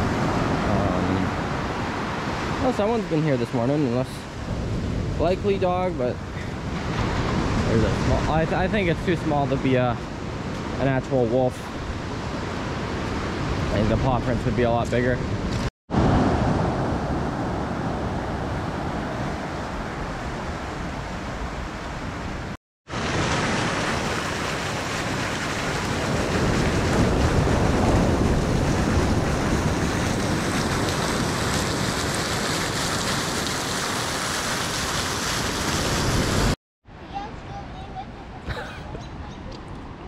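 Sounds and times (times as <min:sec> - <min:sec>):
waves breaking on beach: 0:00.0 - 0:14.8, 0:15.9 - 0:38.0.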